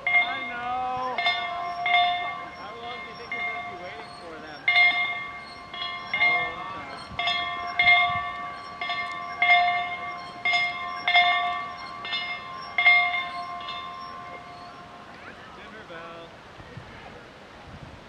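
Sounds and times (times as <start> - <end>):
metal chimes ringing: 0.0 - 15.8.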